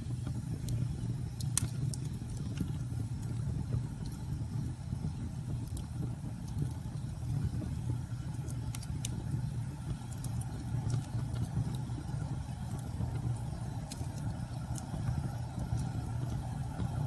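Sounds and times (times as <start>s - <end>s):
fire pops: 0.0s - 17.0s
fireplace crackling: 0.0s - 17.0s.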